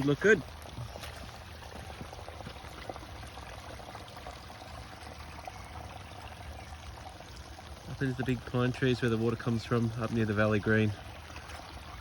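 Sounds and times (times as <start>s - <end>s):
small waterfalls pouring: 0.0s - 12.0s
water running over rocks: 0.0s - 12.0s.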